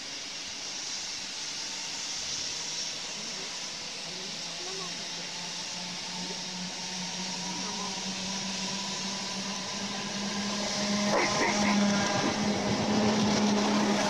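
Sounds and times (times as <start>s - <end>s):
train running hum: 0.0s - 14.0s.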